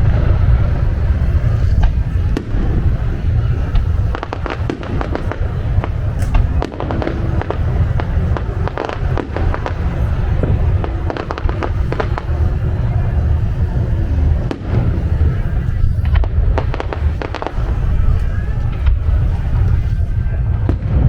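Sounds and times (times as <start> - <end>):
fireworks booming: 0.0 - 21.0
fireworks crackling bursts: 0.0 - 21.0.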